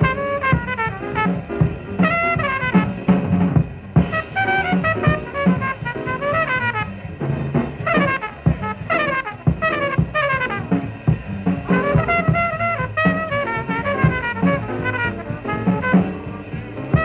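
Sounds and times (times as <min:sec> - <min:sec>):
bass: 0:00.0 - 0:17.0
drums: 0:00.0 - 0:17.0
horn soloing: 0:00.0 - 0:17.0.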